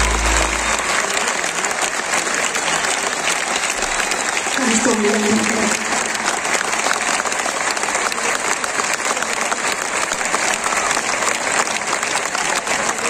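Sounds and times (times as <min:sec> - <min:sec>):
large crowd applauding: 0:00.0 - 0:13.0.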